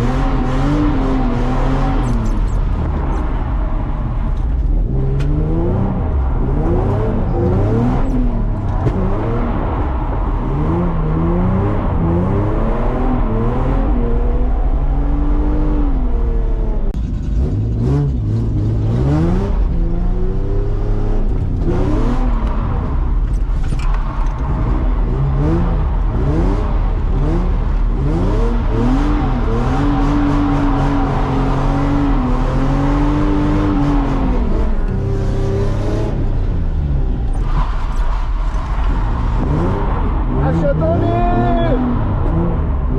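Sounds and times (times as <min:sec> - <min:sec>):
car engine revving while drifting: 0:00.0 - 0:42.9.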